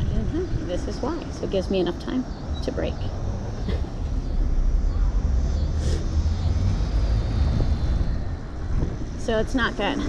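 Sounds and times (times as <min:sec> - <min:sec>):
road noise rumble: 0:00.0 - 0:10.0
wind rushing over microphone: 0:00.0 - 0:10.0.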